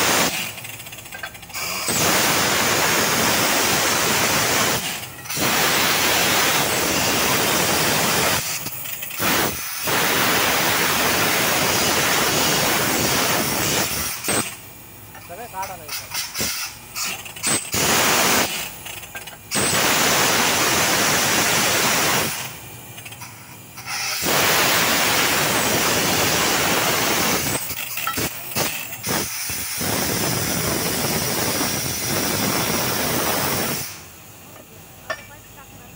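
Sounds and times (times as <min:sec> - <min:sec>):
compressed air hissing blasts: 0:00.0 - 0:35.9.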